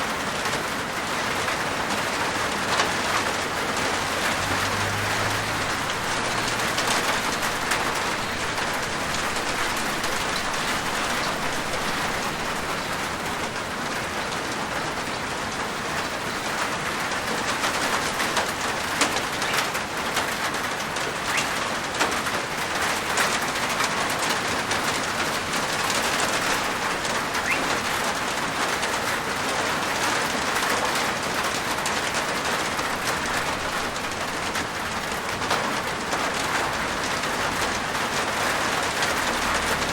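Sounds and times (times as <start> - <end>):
rain on a rooftop: 0.0 - 39.9.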